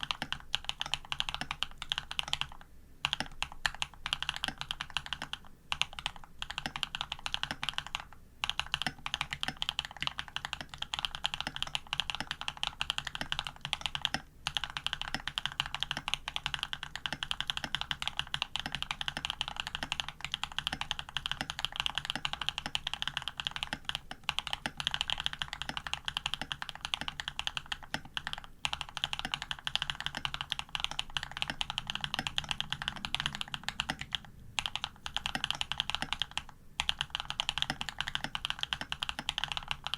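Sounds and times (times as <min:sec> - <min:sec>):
typing on a mechanical keyboard: 0:00.0 - 0:39.9.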